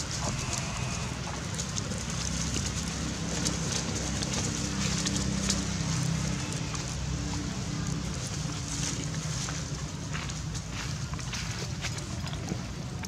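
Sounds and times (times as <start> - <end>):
steady low hum: 0.0 - 11.3
dry leaves crackling and rustling: 0.0 - 12.4.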